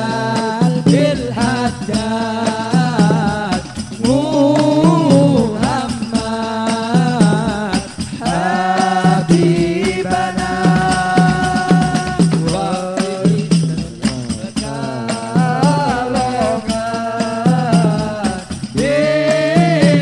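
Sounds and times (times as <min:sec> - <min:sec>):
hand-struck frame drums: 0:00.0 - 0:20.0
large bass drum: 0:00.0 - 0:20.0
men singing devotional song: 0:00.0 - 0:20.0.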